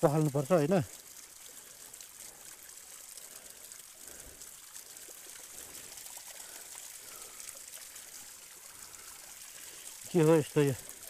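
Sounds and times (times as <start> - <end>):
water pouring from a spout: 0.0 - 11.0.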